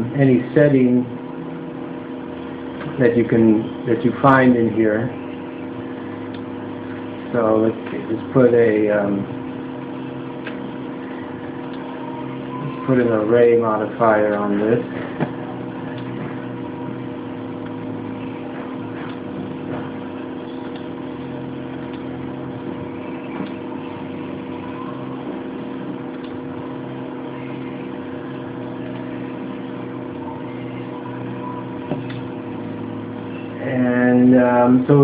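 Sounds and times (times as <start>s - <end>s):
noisy background: 0.0s - 35.0s
steady machine hum: 0.0s - 35.0s.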